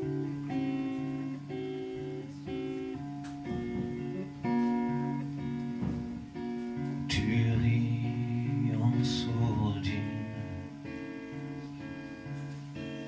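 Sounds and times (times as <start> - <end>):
electric guitar chords: 0.0 - 13.0
keyboard chords: 0.0 - 13.0.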